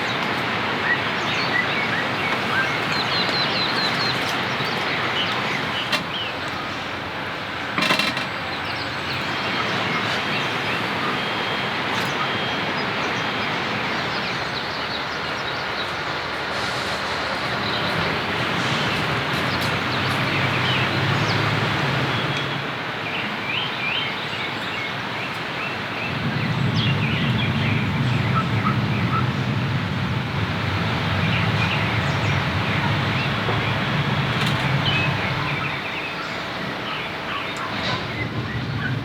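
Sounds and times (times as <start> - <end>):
heavy rain: 0.0 - 8.0, 8.8 - 24.0, 24.9 - 39.0
birds chirping: 0.0 - 39.0.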